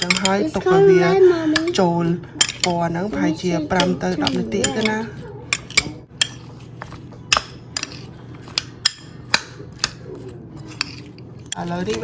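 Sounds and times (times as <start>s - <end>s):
utensil clinking against bowl: 0.0s - 12.0s.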